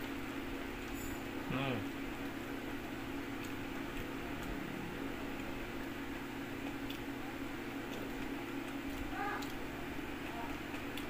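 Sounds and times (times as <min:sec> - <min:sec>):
low mechanical hum: 0:00.0 - 0:11.0
man chewing bread: 0:02.0 - 0:11.0.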